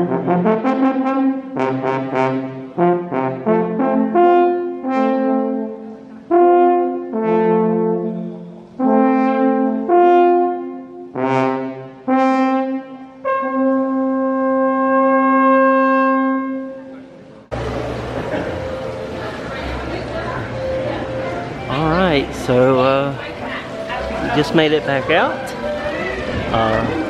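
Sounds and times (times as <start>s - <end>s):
brass horn playing slow tune: 0.0s - 27.0s.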